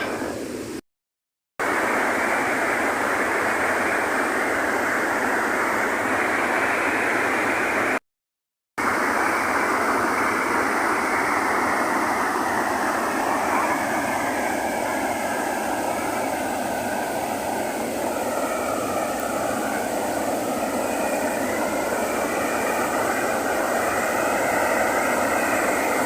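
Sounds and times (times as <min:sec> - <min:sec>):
steady rushing noise: 0:01.6 - 0:08.0, 0:08.8 - 0:26.0.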